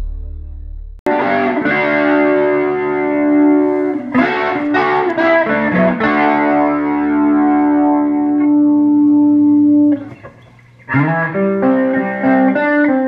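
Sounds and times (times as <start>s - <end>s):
electric guitar through rotating speaker: 0.0s - 13.0s.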